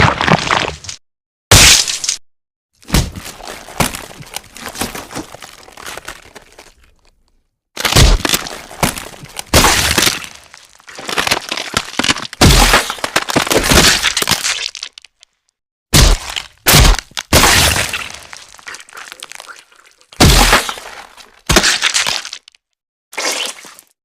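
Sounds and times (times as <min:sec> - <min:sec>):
bones cracking and crunching: 0:00.0 - 0:02.2, 0:02.8 - 0:24.0.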